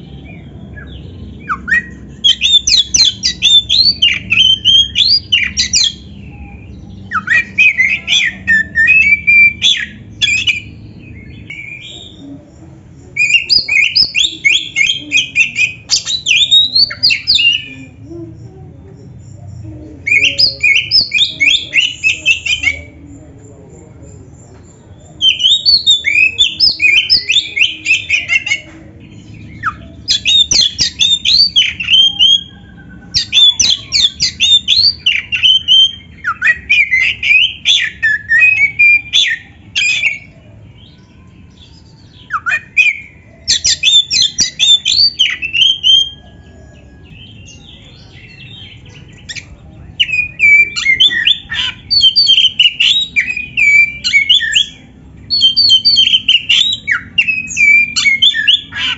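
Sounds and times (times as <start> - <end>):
magpie-robin singing: 0.0 - 58.9.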